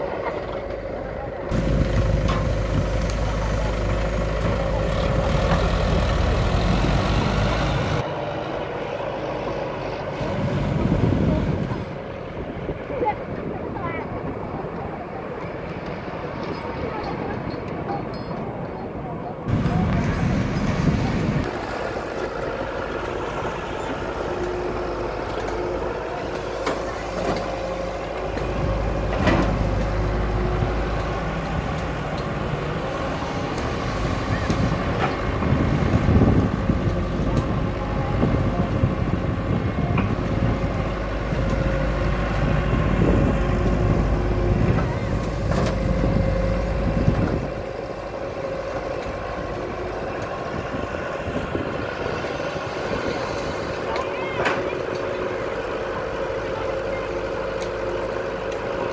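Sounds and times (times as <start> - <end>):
excavator diesel engine rumble: 0.0 - 58.9.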